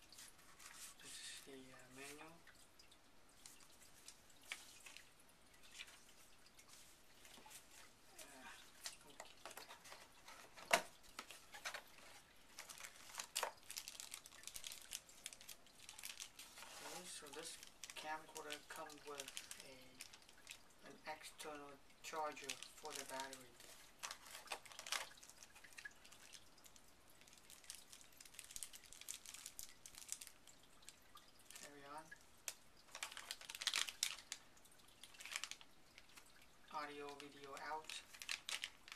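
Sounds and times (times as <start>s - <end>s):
packaging rustling and crinkling: 0.0s - 2.3s, 3.4s - 38.9s.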